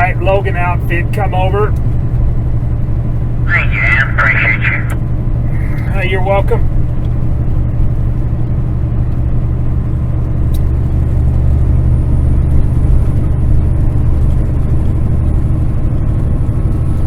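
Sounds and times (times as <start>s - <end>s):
road noise inside cab: 0.0s - 17.0s
truck diesel engine rumble: 0.0s - 17.0s.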